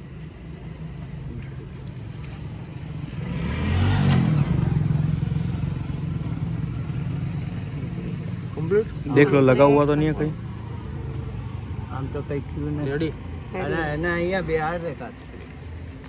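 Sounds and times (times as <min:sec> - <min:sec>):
steady engine hum: 0:00.0 - 0:16.0
vehicle passing: 0:01.2 - 0:16.0.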